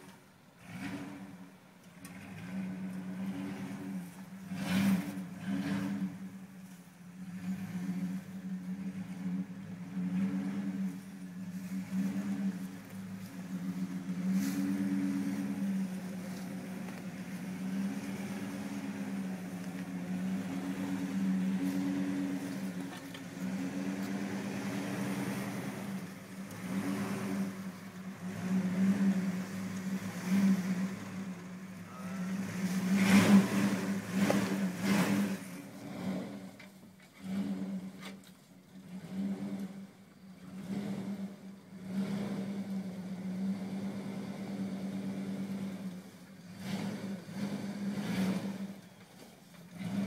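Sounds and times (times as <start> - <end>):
car engine at low revs: 0.0 - 50.0.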